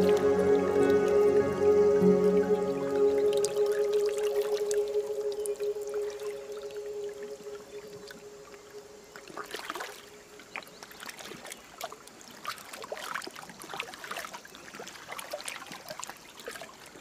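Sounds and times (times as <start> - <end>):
river water splashing: 0.0 - 17.0.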